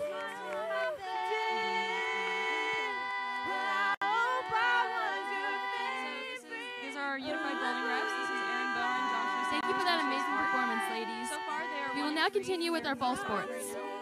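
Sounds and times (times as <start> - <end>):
women singing a cappella: 0.0 - 14.0.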